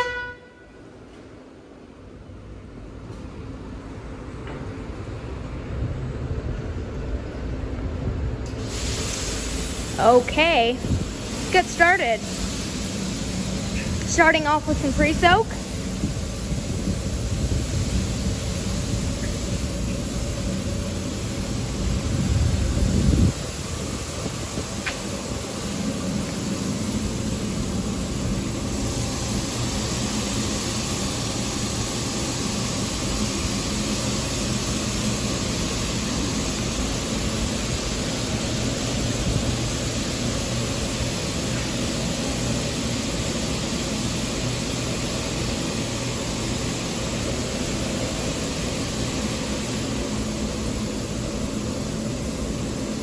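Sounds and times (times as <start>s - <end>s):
spray nozzles hissing: 8.6s - 53.0s.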